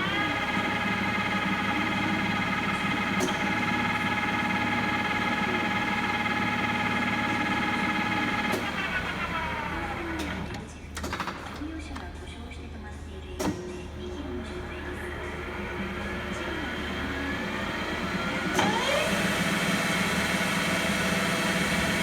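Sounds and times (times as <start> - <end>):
lathe mechanical whine: 0.0 - 10.6, 14.1 - 22.0.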